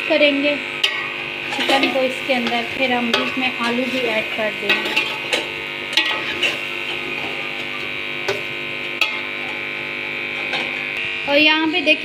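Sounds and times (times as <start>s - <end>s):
steady buzzing hum: 0.0s - 12.0s.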